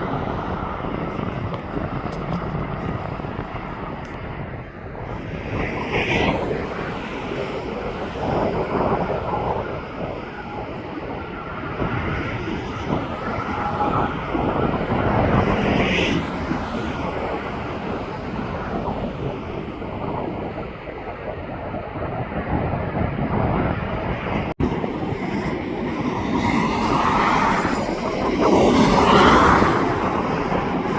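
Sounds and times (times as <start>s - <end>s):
aircraft engines: 0.0s - 30.9s
wind buffeting microphone: 0.0s - 30.9s.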